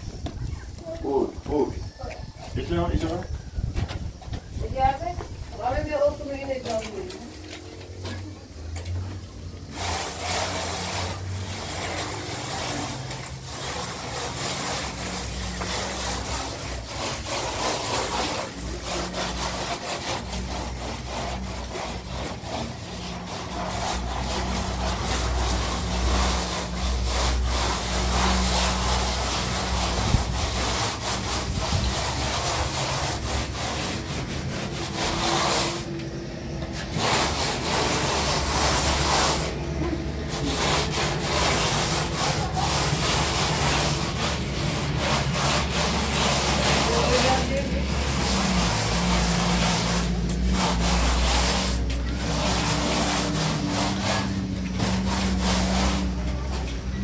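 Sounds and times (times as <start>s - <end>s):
hand float scraping plaster wall: 0.0s - 57.0s.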